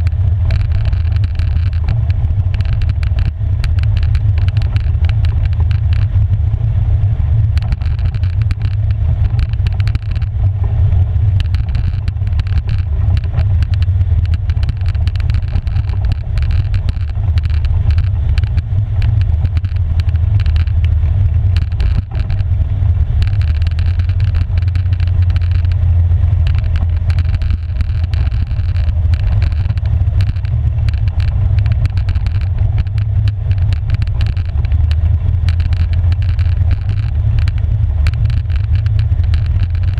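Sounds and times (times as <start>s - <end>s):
atv engine rumbling: 0.0s - 39.9s
gravel and chassis rattles: 0.0s - 39.9s.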